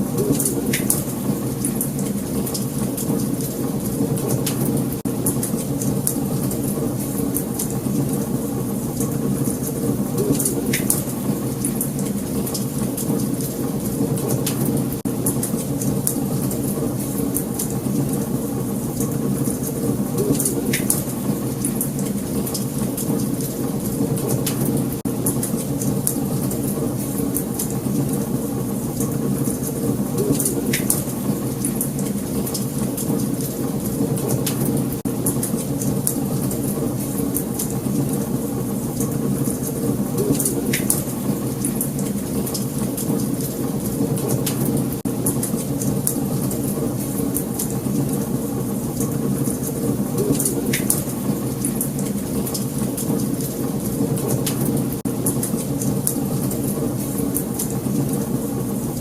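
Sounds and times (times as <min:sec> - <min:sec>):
flames rumbling: 0:00.0 - 0:59.0
wood fire crackling and popping: 0:00.1 - 0:58.6.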